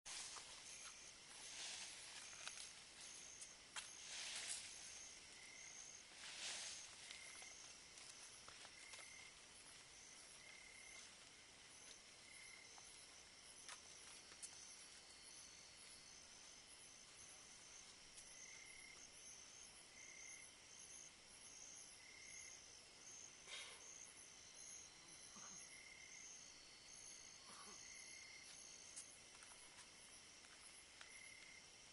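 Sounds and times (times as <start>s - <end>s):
night insects chirping: 0.1s - 31.9s.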